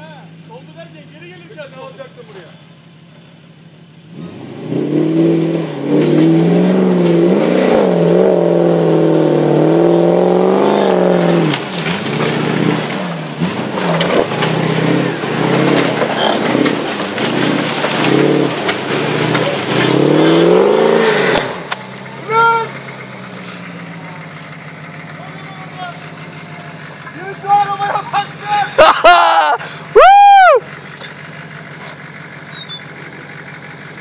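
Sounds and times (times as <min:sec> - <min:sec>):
truck engine revving: 0:03.8 - 0:34.0.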